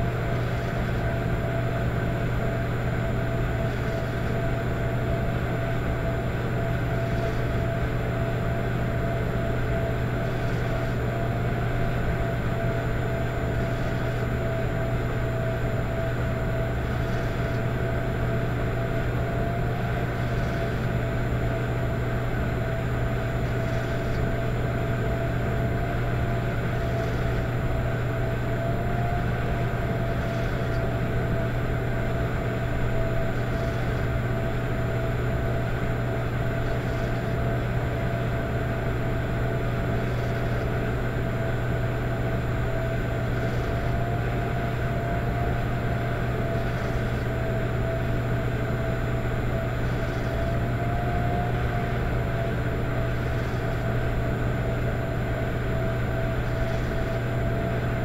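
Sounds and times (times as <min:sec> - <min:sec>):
electric fireplace humming: 0:00.0 - 0:58.0.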